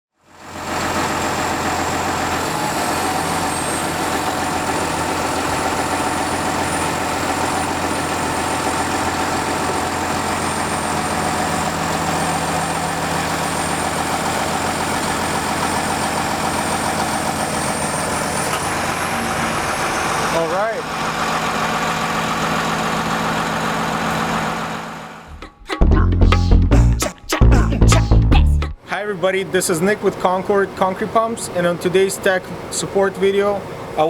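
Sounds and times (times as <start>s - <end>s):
truck engine idling: 0.3s - 28.8s.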